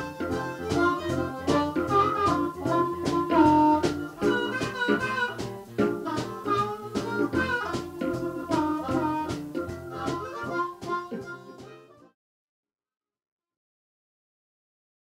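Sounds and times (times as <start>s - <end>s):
live band music: 0.0s - 12.1s.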